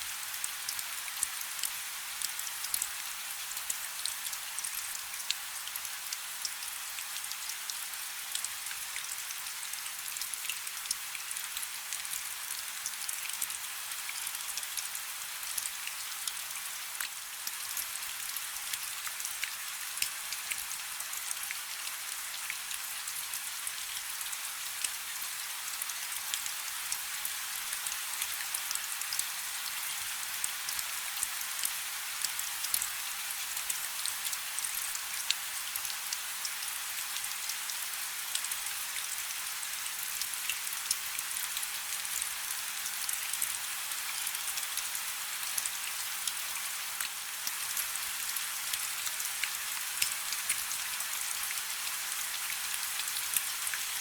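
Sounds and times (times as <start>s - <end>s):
rain falling on a river: 0.0s - 54.0s.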